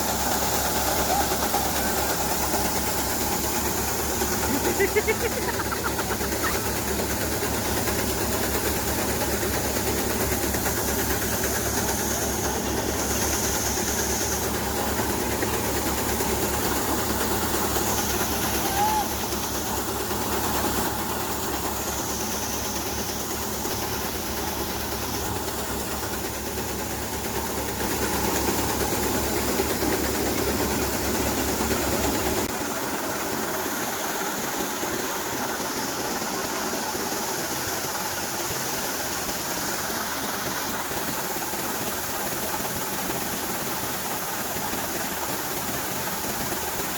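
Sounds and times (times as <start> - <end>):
maize sheller running: 0.0 - 46.9.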